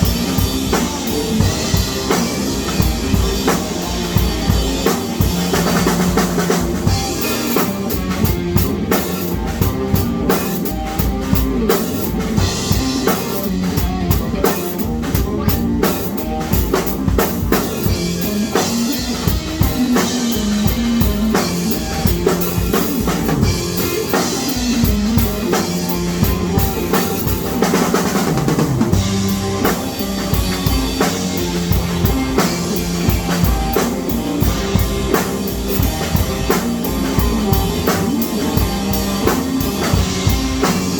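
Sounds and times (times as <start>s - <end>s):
bass line: 0.0s - 40.9s
drum kit music: 0.0s - 40.9s.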